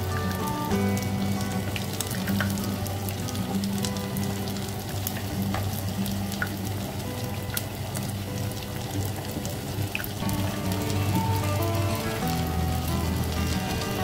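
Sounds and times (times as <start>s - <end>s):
pancakes sizzling in oil: 0.0s - 14.0s.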